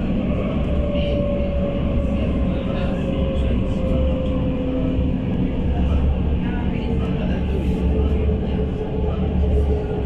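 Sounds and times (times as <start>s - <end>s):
tram rumbling on rails: 0.0s - 10.0s.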